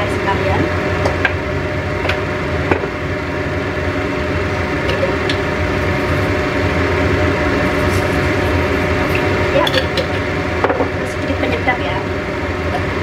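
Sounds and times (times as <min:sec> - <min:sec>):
kitchen fan humming: 0:00.0 - 0:13.0.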